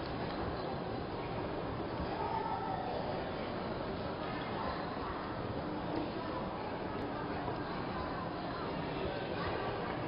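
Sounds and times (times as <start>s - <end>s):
crowd hubbub: 0.0s - 10.0s.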